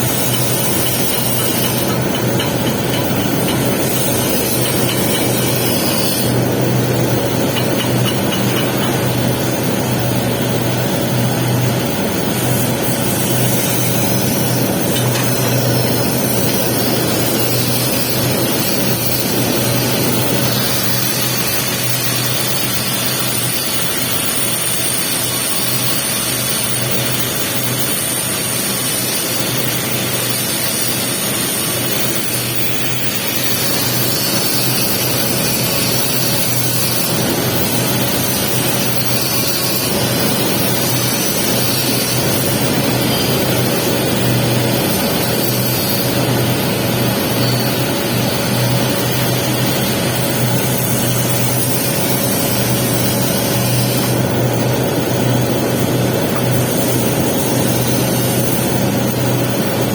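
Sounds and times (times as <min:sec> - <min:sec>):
welding arc sizzling: 0:00.0 - 0:59.9.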